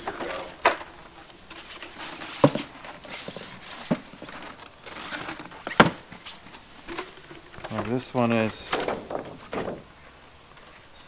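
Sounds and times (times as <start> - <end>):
plastic sheets crinkling: 0.0 - 9.9.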